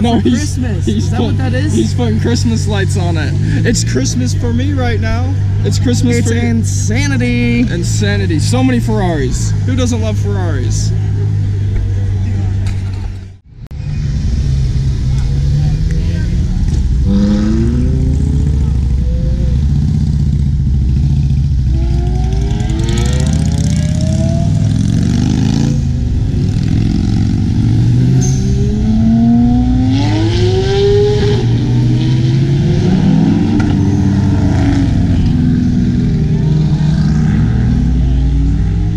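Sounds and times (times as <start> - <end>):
sports car engines revving: 0.0 - 38.9.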